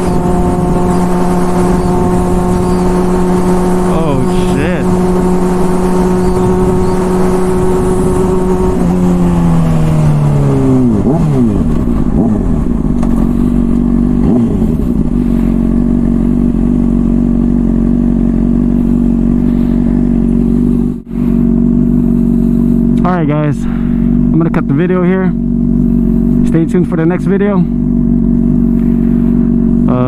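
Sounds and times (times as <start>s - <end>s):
motorcycle engine revving and idling: 0.0s - 30.0s.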